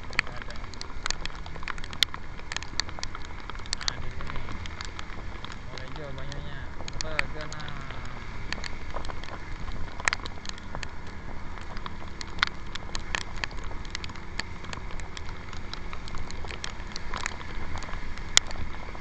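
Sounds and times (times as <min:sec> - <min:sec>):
raindrops tapping on camera: 0:00.0 - 0:19.0
scooter running on wet road: 0:00.0 - 0:19.0
wind rumble: 0:00.0 - 0:19.0.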